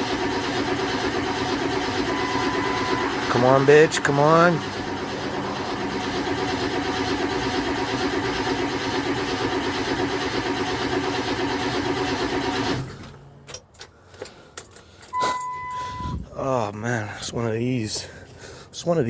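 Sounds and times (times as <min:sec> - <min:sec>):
diesel engine cranking: 0:00.0 - 0:16.4.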